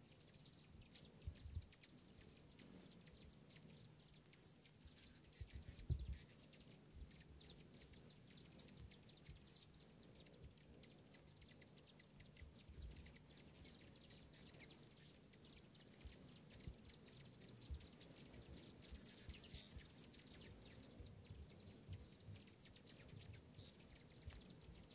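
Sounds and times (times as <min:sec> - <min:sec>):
insect chorus chirring: 0:00.0 - 0:24.9.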